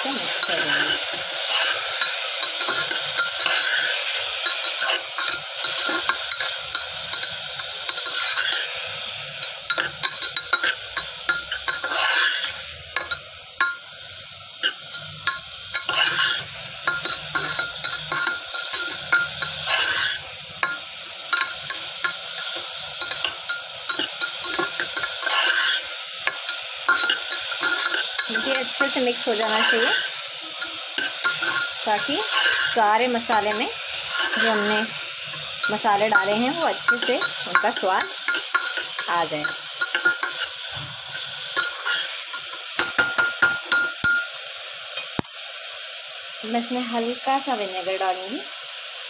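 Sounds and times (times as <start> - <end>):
vegetables sizzling in a pot: 0.0 - 49.0
metal spoon scraping a pot: 0.3 - 13.8, 14.6 - 44.0.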